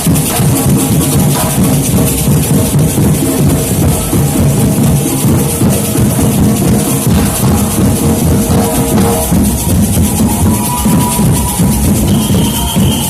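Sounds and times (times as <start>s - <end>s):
deep bass drum beats: 0.0s - 13.0s
drum band playing: 0.0s - 13.0s.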